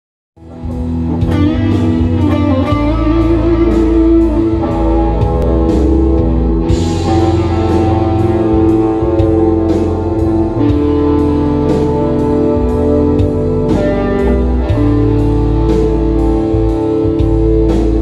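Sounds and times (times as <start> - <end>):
backing track with drums: 0.4 - 18.0
electric guitar lead lines: 0.4 - 18.0.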